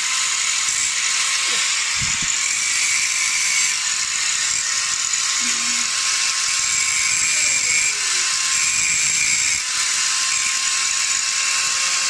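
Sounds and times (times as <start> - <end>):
angle grinder motor whine: 0.0 - 12.0
disc grinding steel: 0.0 - 12.0.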